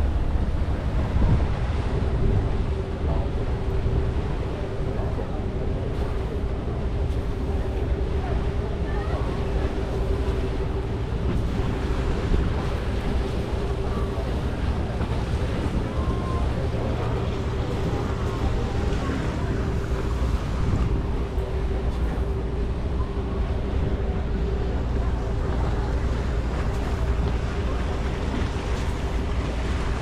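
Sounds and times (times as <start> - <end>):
wind noise on microphone: 0.0 - 7.6, 8.8 - 30.0
boat engine running: 0.0 - 30.0
water washing along hull: 0.0 - 30.0.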